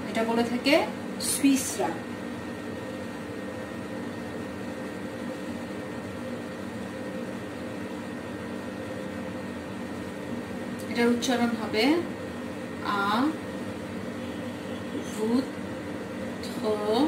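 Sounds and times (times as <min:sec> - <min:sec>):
background hum with hiss: 0:00.0 - 0:17.0.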